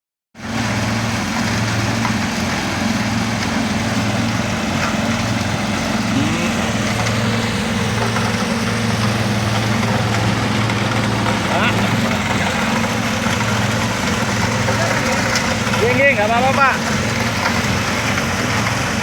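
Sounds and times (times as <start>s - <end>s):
heavy machinery engine humming: 0.4s - 19.0s.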